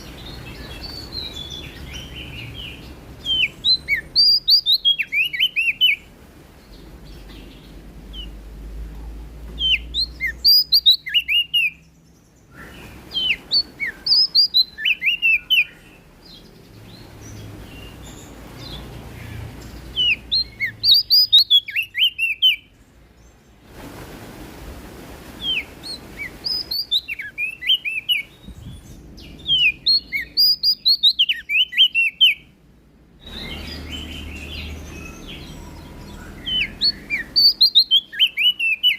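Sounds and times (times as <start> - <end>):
songbird singing: 0.0 - 23.7, 25.2 - 38.9.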